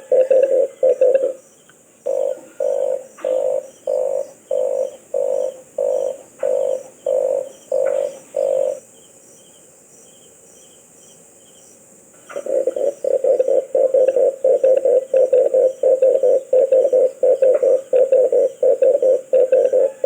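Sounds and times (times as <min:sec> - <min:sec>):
dove calling croaky notes: 0:00.0 - 0:09.0, 0:12.2 - 0:20.0.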